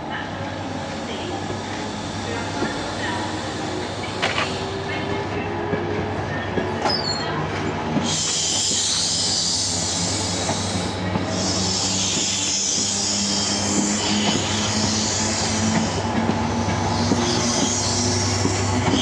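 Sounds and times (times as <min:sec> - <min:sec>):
passenger train rolling past: 0:00.0 - 0:19.0.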